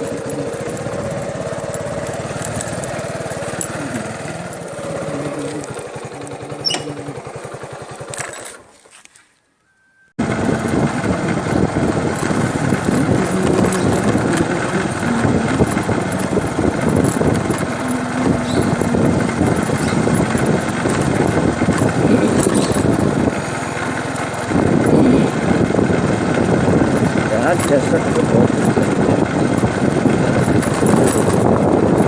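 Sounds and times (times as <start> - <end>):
motor vehicle running: 0.0 - 9.2, 10.2 - 32.0.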